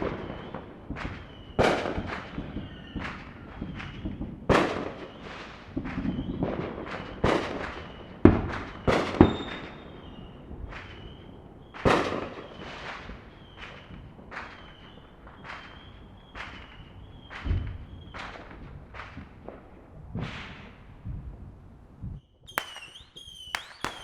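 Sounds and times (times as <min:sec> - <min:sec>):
distant fireworks bangs and pops: 0:00.0 - 0:21.3, 0:22.5 - 0:24.0.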